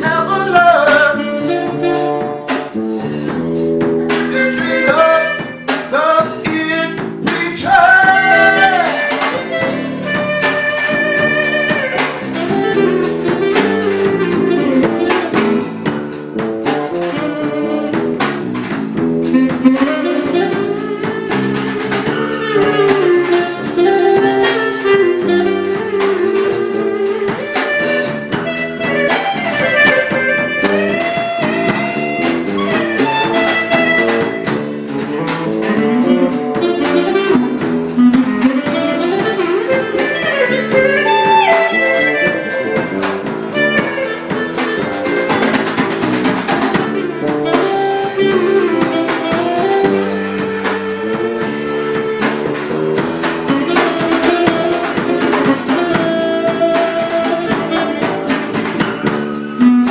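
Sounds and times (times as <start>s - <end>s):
live jazz band playing: 0.0s - 59.9s.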